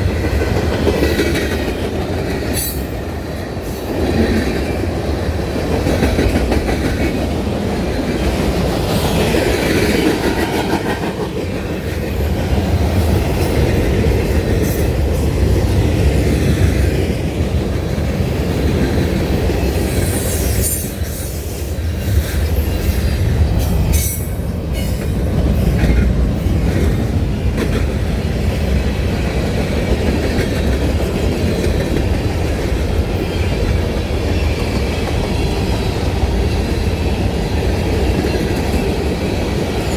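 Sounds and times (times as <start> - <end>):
train rumbling over rails: 0.0 - 39.9.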